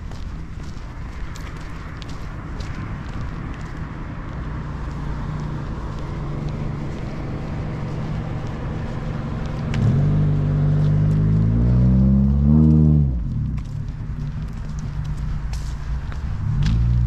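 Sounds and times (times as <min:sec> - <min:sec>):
street traffic noise: 0:00.0 - 0:17.0
vehicle engine humming: 0:00.0 - 0:17.0.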